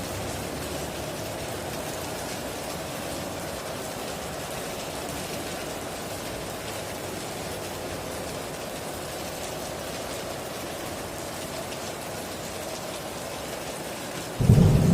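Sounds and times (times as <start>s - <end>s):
heavy rain on a tin roof: 0.0s - 14.9s.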